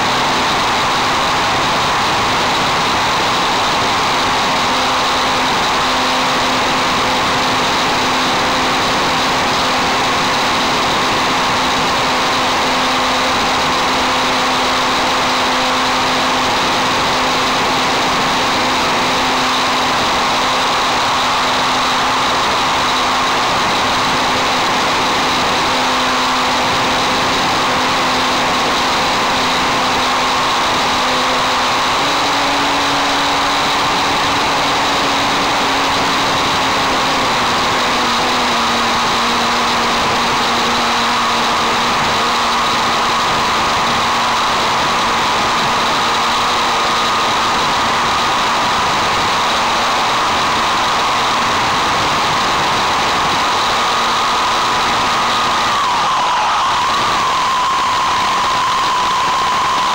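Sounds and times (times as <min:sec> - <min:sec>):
model airplane motor droning: 0:00.0 - 0:59.9
wind rush: 0:00.0 - 0:59.9.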